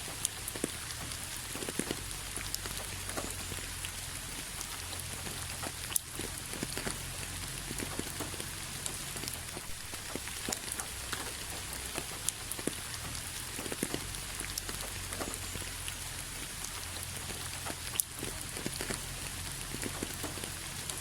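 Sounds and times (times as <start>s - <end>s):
low steady rumble: 0.0s - 21.0s
rain falling: 0.0s - 21.0s.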